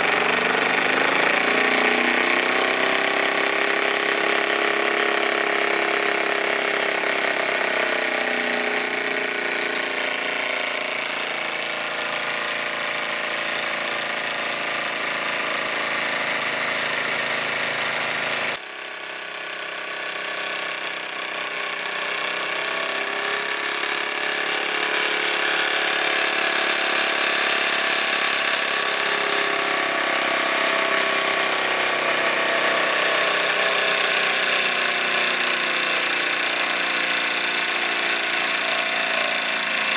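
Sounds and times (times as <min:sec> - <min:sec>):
toy steam engine whirring: 0:00.0 - 0:39.9.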